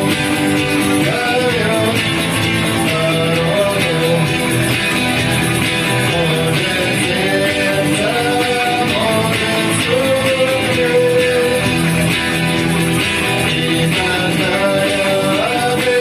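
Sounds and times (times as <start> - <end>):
guitar-backed song: 0.0 - 16.0.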